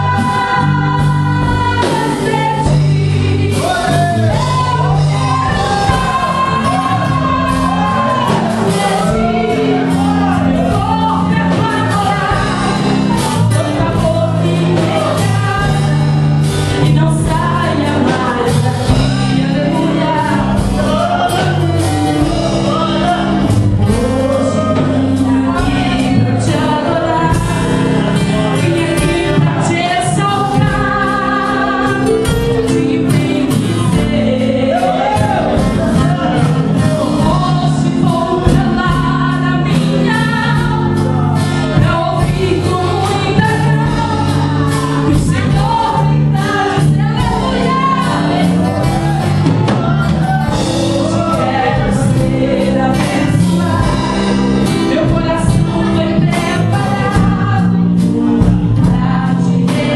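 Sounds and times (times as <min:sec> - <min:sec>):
drums: 0:00.0 - 0:59.9
low bass notes: 0:00.0 - 0:59.9
woman singing into a microphone: 0:00.0 - 0:59.9.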